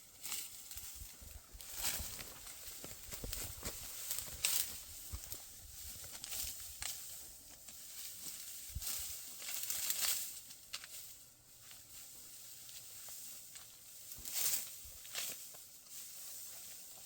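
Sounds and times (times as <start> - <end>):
dry wheat stalks rustling: 0.0 - 17.0.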